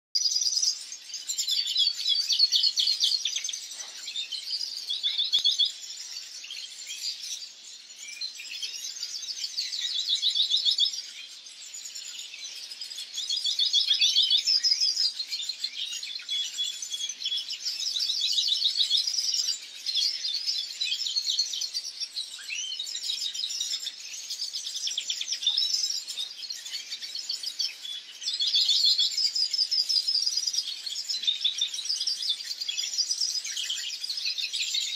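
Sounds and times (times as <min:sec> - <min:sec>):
bird twittering song: 0:00.1 - 0:34.9.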